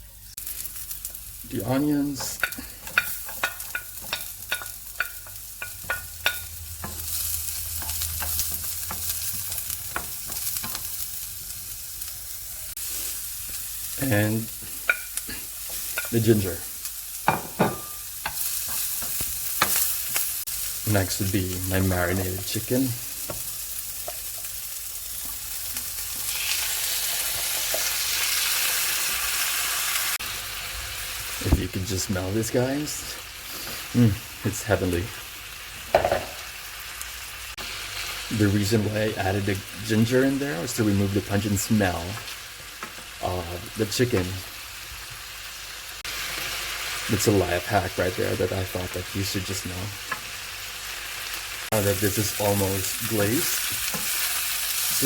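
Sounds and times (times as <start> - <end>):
onions sizzling in a pan: 0.0 - 55.0.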